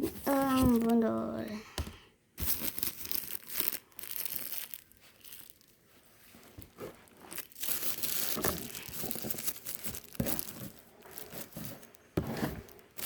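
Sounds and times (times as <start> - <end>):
plastic wrapper crinkling: 2.4 - 13.0.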